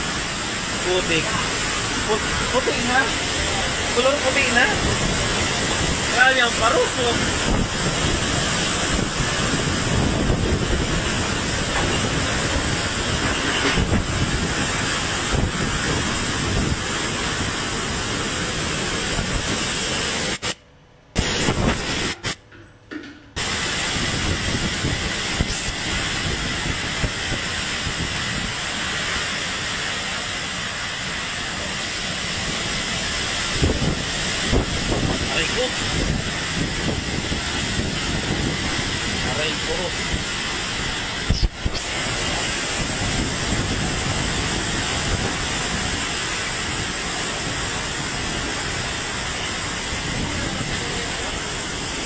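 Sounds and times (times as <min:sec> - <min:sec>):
wind buffeting microphone: 0:00.0 - 0:20.4, 0:23.4 - 0:52.0
driving rain: 0:00.0 - 0:20.6, 0:21.2 - 0:22.4, 0:23.4 - 0:52.0
strong wind: 0:00.0 - 0:22.4, 0:23.1 - 0:52.0.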